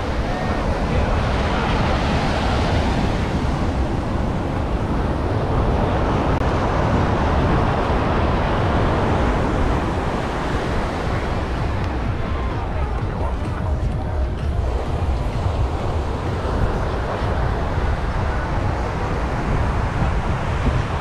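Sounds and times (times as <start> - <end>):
ocean surf breaking on beach: 0.0 - 21.0
wind buffeting microphone: 0.0 - 21.0.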